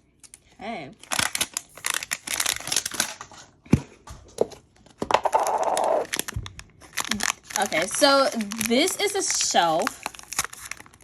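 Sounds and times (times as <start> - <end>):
plastic packaging rustling: 1.0 - 3.6, 4.8 - 11.0.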